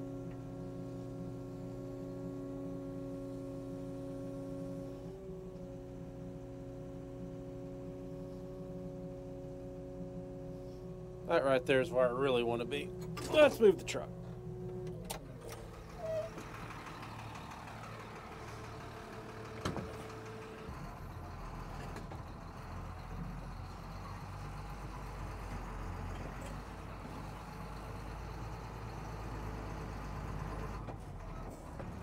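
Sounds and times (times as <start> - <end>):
dump truck engine running: 0.0 - 32.0.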